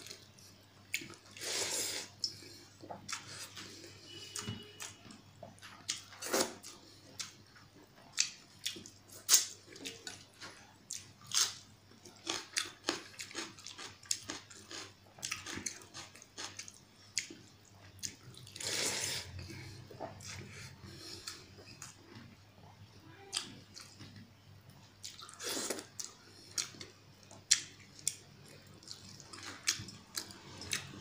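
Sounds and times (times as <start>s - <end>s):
chewing: 0.9s - 22.4s, 25.0s - 31.0s.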